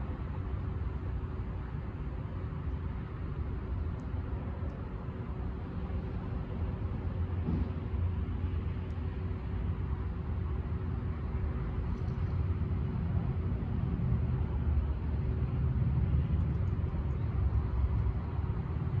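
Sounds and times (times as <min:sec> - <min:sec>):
town traffic rumble: 0:00.0 - 0:19.0.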